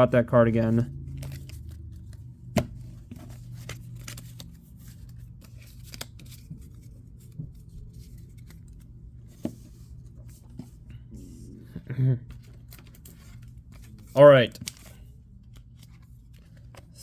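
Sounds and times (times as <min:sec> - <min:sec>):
low steady hum: 0:00.0 - 0:17.0
rustling of cards and packaging: 0:00.1 - 0:11.1, 0:12.2 - 0:17.0.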